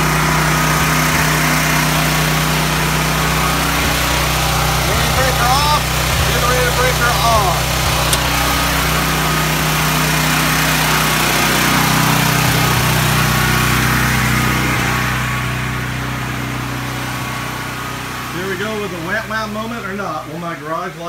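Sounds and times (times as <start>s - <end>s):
generator engine humming: 0.0s - 21.0s.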